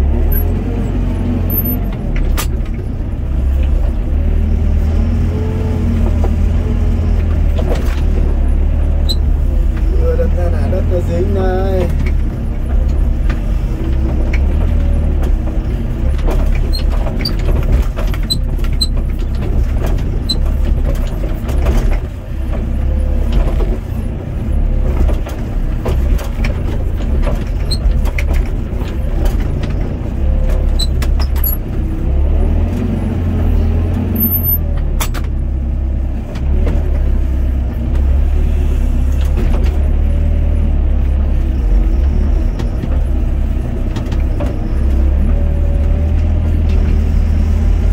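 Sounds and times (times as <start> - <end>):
excavator diesel engine under load: 0.0 - 47.9.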